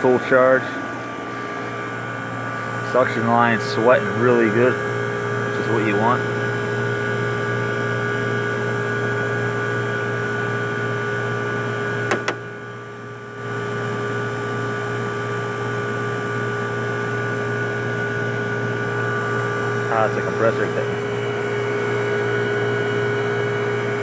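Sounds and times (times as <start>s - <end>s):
air conditioner humming: 0.0s - 13.1s, 16.9s - 24.0s.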